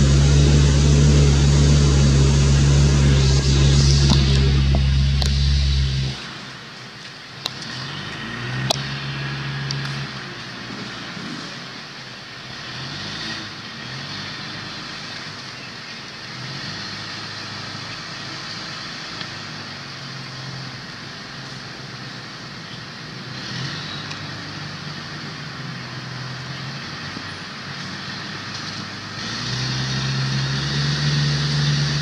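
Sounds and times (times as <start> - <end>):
passing vehicle engines: 0.0 - 32.0.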